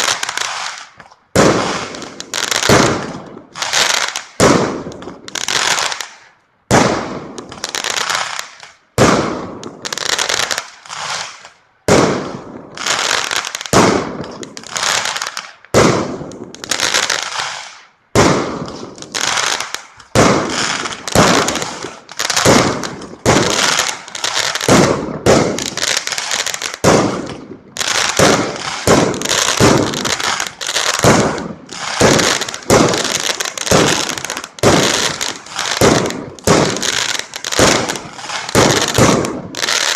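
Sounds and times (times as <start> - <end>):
firework crackling: 0.0 - 39.9
fireworks banging: 0.0 - 39.9.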